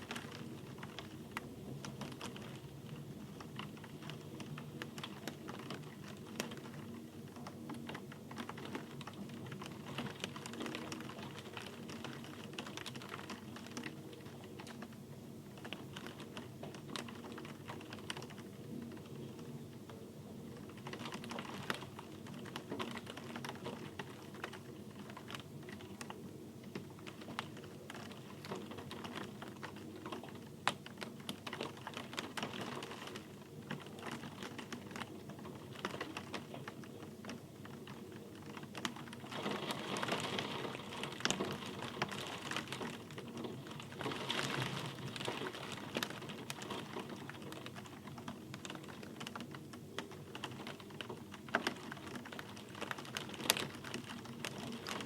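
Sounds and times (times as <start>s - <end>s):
raindrops clicking: 0.0s - 19.9s, 20.5s - 55.0s.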